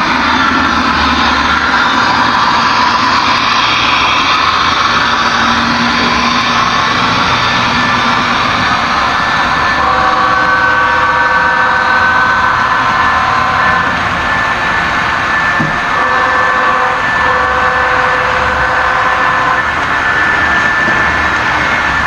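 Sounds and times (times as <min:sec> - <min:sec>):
high whining tones: 0:00.0 - 0:22.0
model train wheels on rails: 0:00.0 - 0:22.0.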